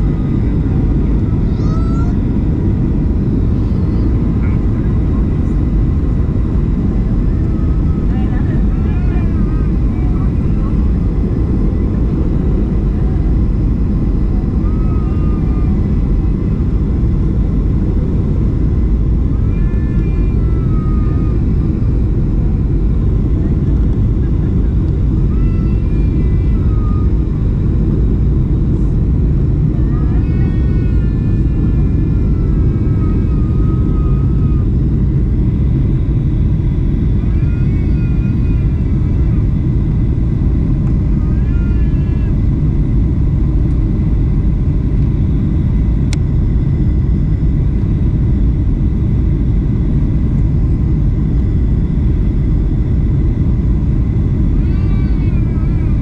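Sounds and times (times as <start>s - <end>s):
passengers talking: 0.0s - 47.0s, 49.8s - 56.0s
airplane cabin roar: 0.0s - 56.0s.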